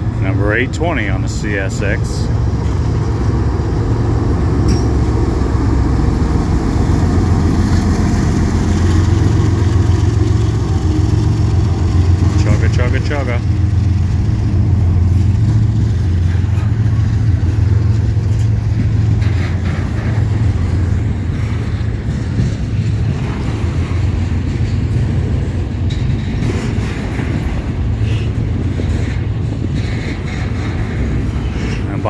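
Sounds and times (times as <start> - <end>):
diesel locomotive drone: 0.0 - 32.0
freight train wheels rumbling: 0.0 - 32.0.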